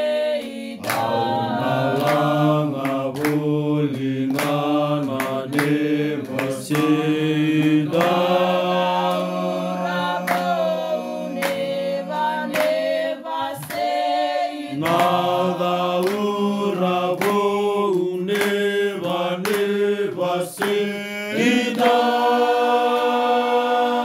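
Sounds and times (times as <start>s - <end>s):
group singing in harmony: 0.0s - 24.0s
hand claps: 0.0s - 24.0s.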